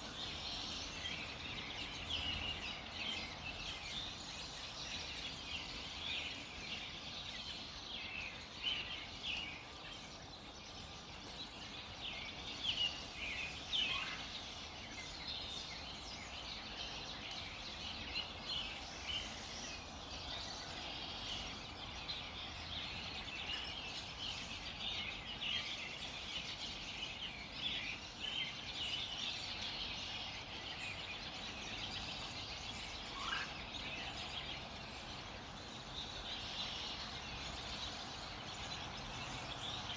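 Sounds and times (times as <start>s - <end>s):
lower bird calls: 0.0s - 39.9s
songbirds chirping and singing: 0.0s - 39.9s.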